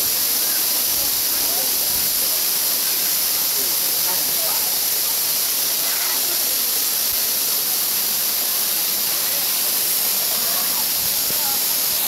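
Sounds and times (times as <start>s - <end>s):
waterfall pouring: 0.0s - 12.0s.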